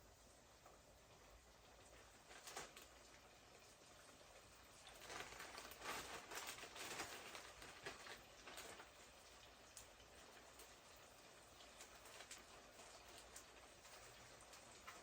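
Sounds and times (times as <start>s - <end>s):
fish deep-frying in hot oil: 0.0s - 15.0s.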